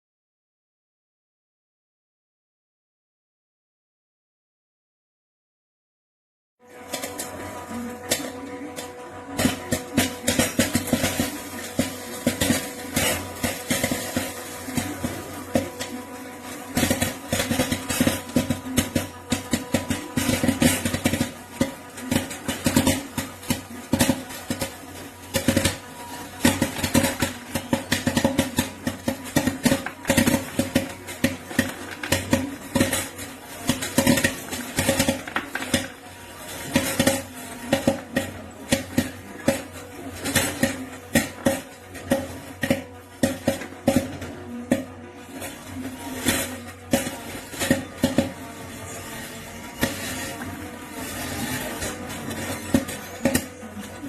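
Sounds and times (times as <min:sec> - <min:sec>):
popcorn machine hum: 0:06.6 - 0:54.0
popcorn popping: 0:06.6 - 0:54.0.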